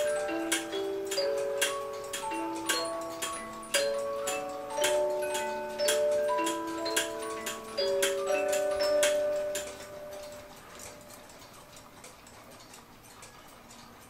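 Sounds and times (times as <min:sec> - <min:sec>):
faint clock ticking: 0:00.0 - 0:14.0
plucked metal clockwork tune: 0:00.0 - 0:14.0.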